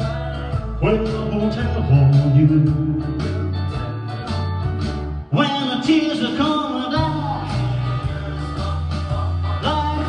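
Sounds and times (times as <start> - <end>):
person singing: 0.0 - 4.5, 5.3 - 10.0
rock and roll backing music: 0.0 - 10.0.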